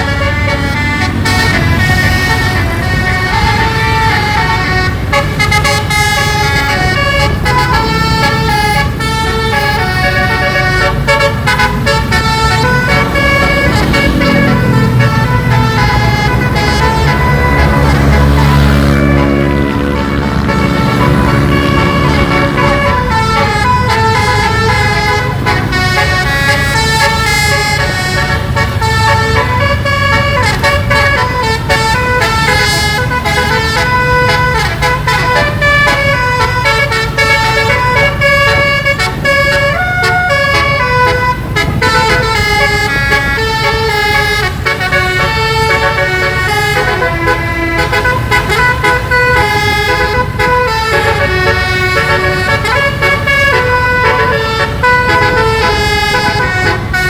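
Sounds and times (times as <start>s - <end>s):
musical air horn melody: 0.0s - 57.0s.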